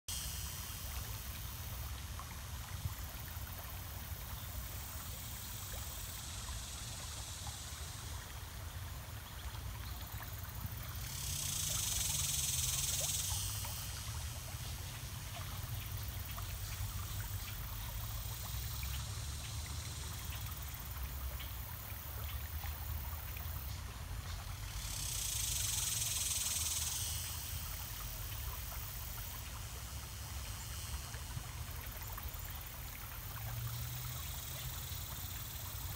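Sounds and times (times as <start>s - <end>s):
creek water trickling over rocks: 0.1s - 35.9s.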